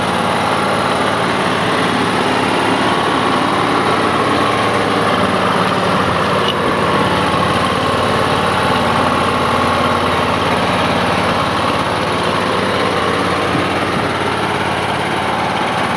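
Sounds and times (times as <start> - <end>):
mower engine running: 0.0 - 15.9.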